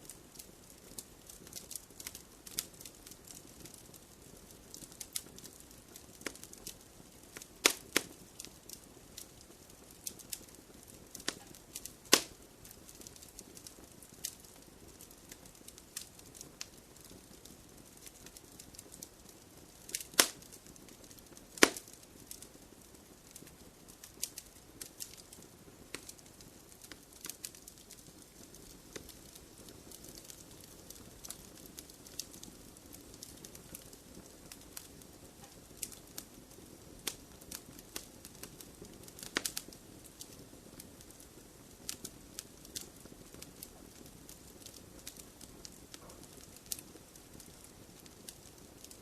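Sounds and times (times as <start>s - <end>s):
soft steady fire hiss: 0.0s - 49.0s
wood fire crackling and popping: 0.0s - 49.0s.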